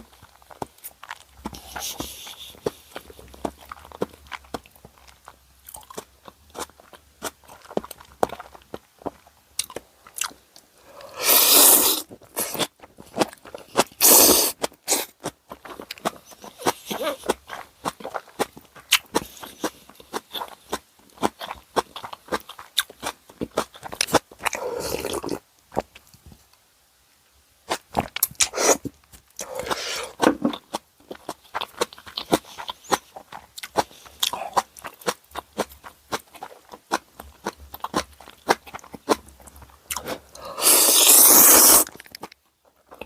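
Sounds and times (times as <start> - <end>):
crunching and chewing: 0.0 - 26.5, 27.6 - 43.0.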